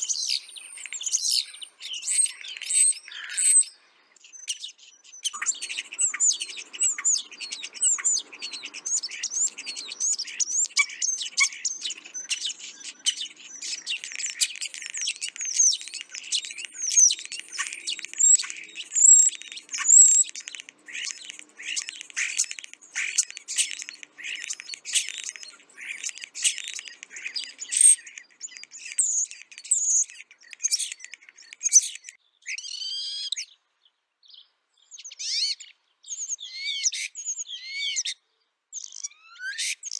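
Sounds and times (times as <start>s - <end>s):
starlings chirping and whistling: 0.0s - 33.6s, 34.3s - 38.2s, 38.8s - 39.9s.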